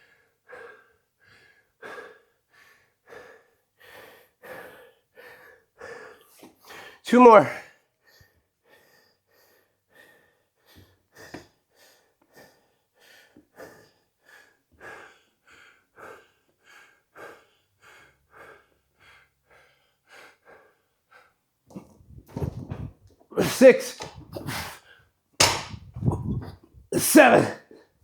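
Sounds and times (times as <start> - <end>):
man panting heavily: 0.0 - 7.0, 7.7 - 27.5.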